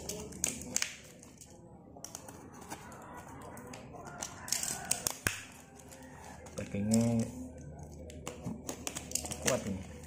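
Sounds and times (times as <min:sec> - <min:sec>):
crackling plastic: 0:00.0 - 0:10.0.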